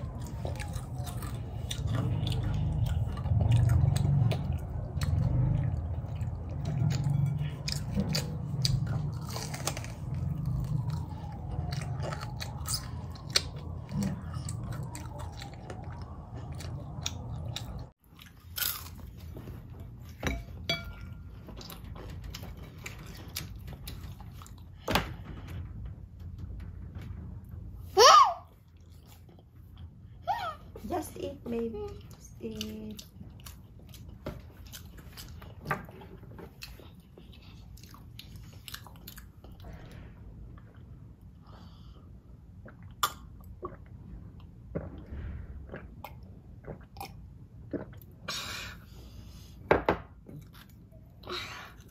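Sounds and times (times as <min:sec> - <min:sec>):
child chewing crunchy food: 0:00.0 - 0:24.9, 0:28.6 - 0:30.2, 0:32.0 - 0:49.6, 0:50.2 - 0:51.9.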